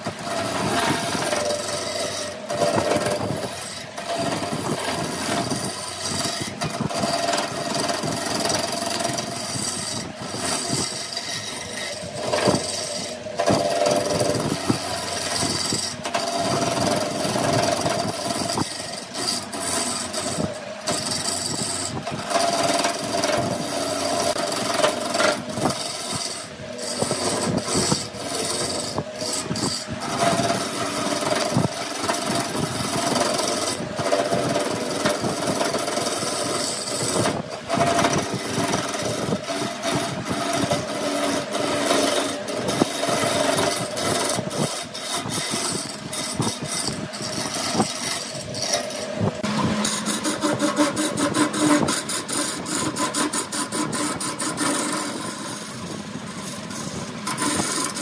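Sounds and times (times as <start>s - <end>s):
power tool motor hum: 0.0s - 58.0s
wood rasping and scraping: 0.0s - 58.0s.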